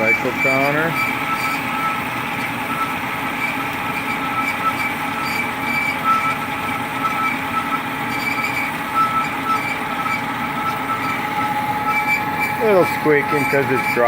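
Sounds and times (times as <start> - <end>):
bandsaw blade squeaking: 0.0 - 14.0
bandsaw whine: 0.0 - 14.0.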